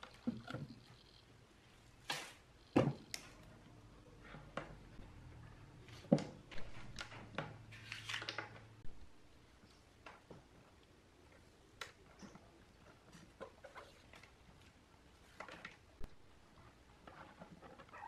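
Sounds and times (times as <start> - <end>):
wires rustling and clicking: 0.0 - 8.9, 9.5 - 18.0.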